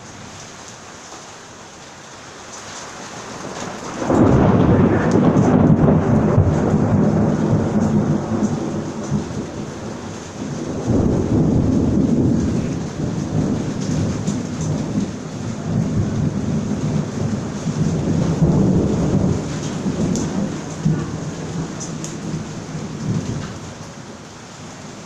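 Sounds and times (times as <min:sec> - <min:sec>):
steady rain: 0:00.0 - 0:25.0
raindrop ticks: 0:02.4 - 0:09.9, 0:10.5 - 0:24.0
thunder rumbling: 0:03.4 - 0:24.3.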